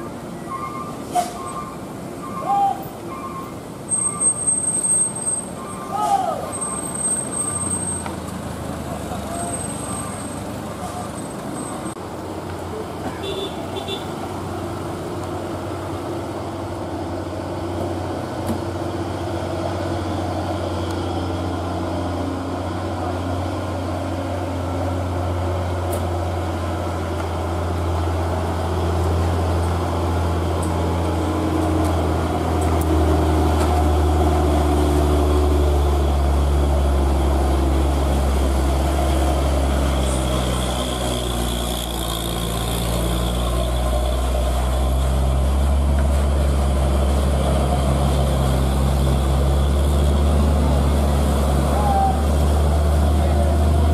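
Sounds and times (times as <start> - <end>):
diesel truck engines droning: 0.0 - 53.9.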